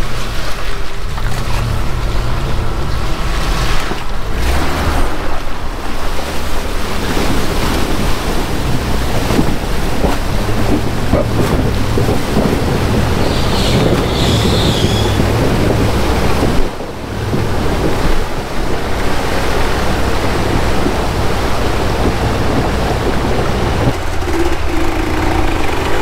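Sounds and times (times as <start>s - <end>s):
vehicle engine rumble: 0.0s - 26.0s
wind buffeting microphone: 0.0s - 26.0s.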